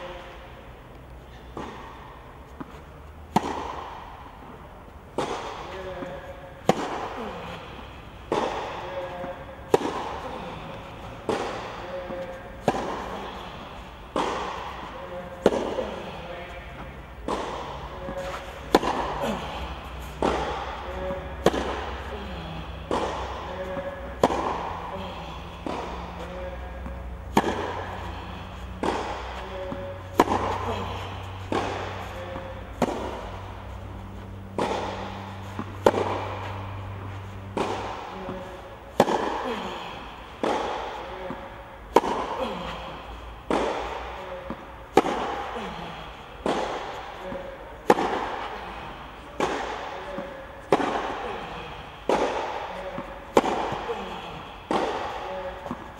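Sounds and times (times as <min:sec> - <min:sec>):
steady low hum: 0:00.0 - 0:55.9
tennis racket hitting ball: 0:01.3 - 0:55.9.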